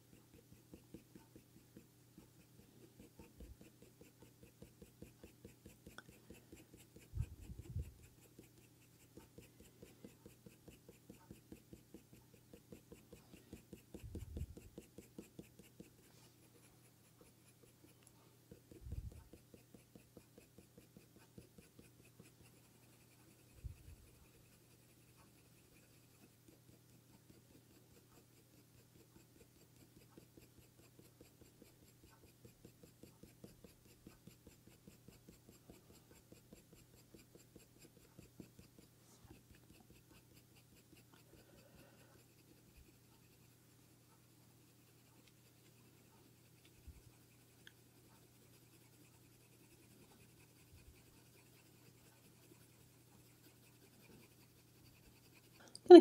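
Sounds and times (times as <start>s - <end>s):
pencil scratching on paper: 0.0s - 56.0s.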